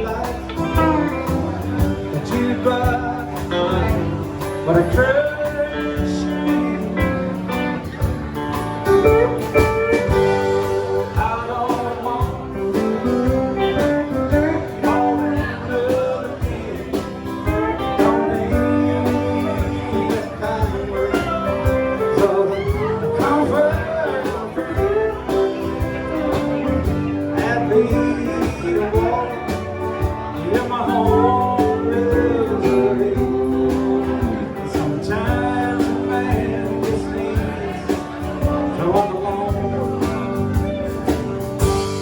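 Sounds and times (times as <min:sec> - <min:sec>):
live country-rock band playing: 0:00.0 - 0:42.0.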